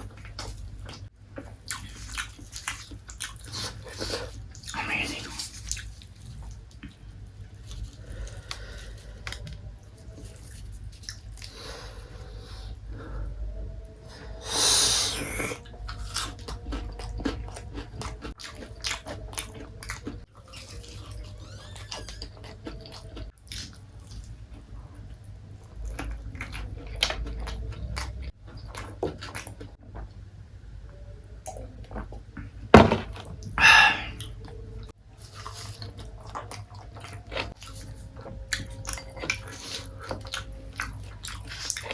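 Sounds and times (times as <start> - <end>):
chewing and crunching: 0.0 - 30.2, 34.2 - 41.9.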